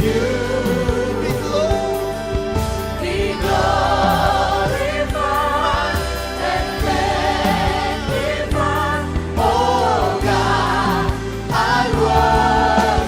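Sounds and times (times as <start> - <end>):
band with bass and beat: 0.0 - 13.0
voices singing worship music: 0.0 - 13.0.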